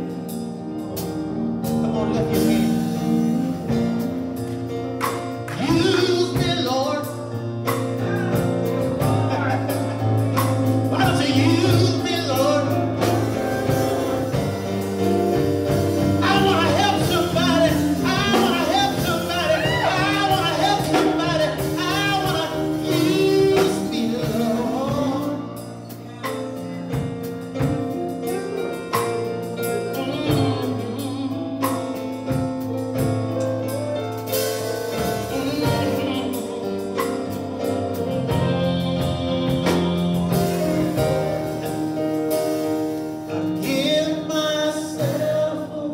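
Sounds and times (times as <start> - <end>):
person singing gospel: 0.0 - 32.5, 34.2 - 45.9
sustained instrumental chords: 0.0 - 45.9.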